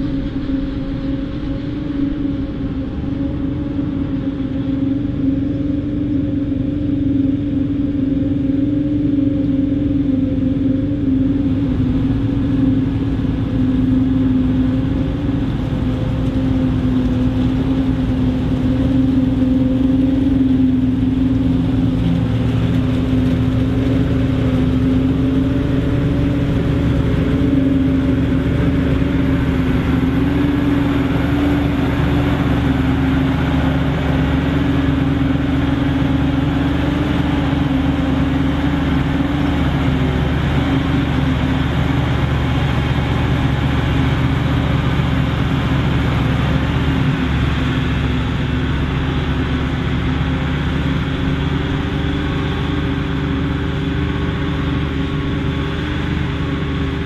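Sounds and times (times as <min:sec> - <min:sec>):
forage harvester humming: 0:00.0 - 0:57.0
tractor driving: 0:00.0 - 0:57.0.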